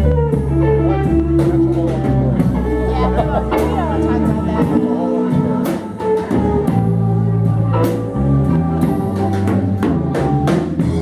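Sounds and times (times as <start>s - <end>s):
bass line: 0.0s - 11.0s
guitar: 0.0s - 11.0s.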